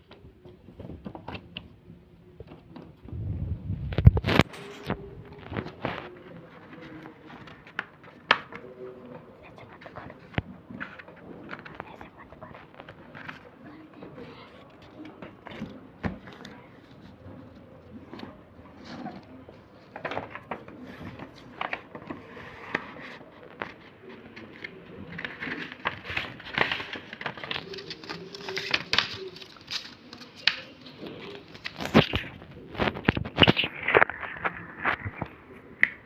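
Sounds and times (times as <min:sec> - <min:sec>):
paper rustling and crinkling: 0:03.9 - 0:35.6.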